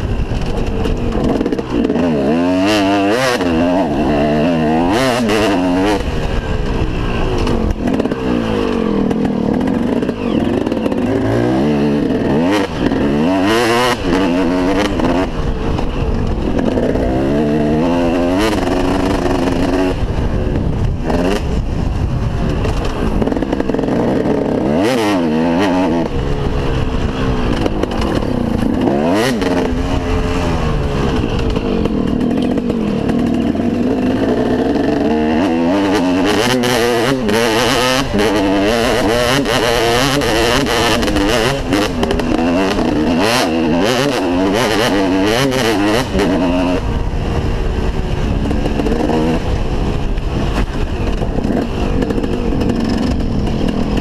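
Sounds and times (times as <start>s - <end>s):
motocross engine revving: 0.0s - 54.0s
wind rush: 0.0s - 54.0s.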